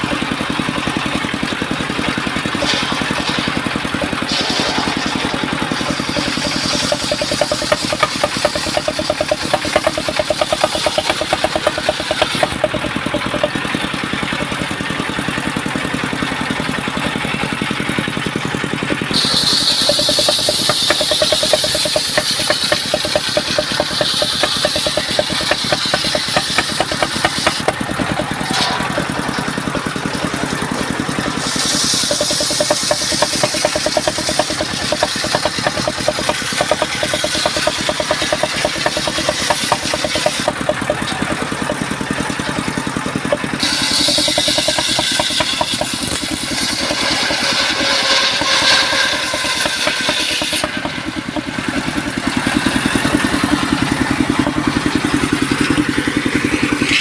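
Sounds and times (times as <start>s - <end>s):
sawmill machinery knocking: 0.0s - 57.0s.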